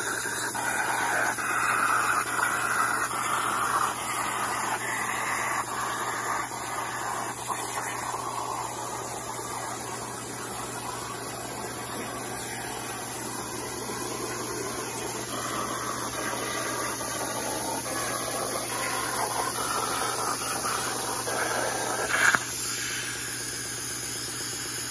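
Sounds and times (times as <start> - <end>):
plasma torch arc hissing: 0.0 - 24.9.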